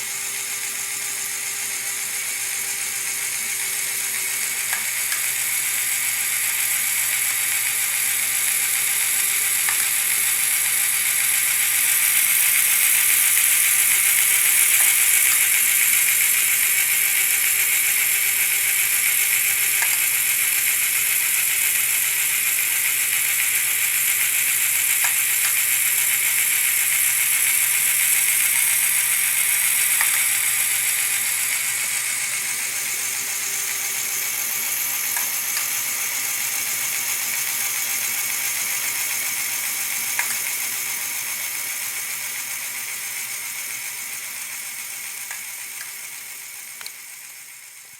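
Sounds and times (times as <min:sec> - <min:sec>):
plastic gears whirring and clattering: 0:00.0 - 0:47.9.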